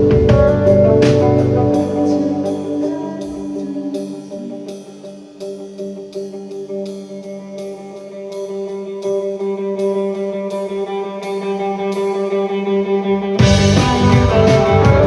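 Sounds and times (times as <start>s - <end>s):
electric guitar ringing chords: 0.0s - 15.0s
live rock band playing: 0.0s - 15.0s.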